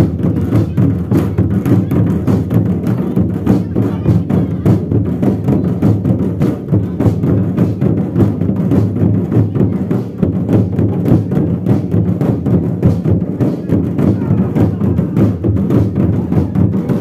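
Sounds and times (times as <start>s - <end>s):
folk dance music with drums: 0.0s - 17.0s.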